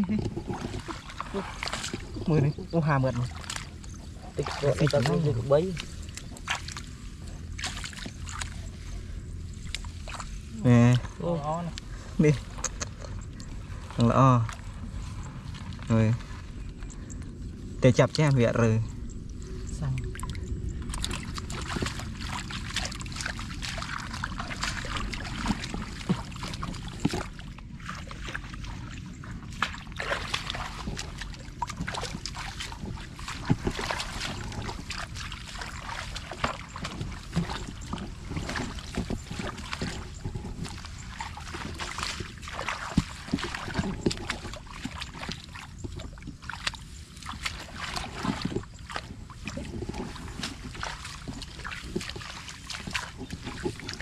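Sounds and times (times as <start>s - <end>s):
water sloshing and splashing: 0.0s - 54.0s.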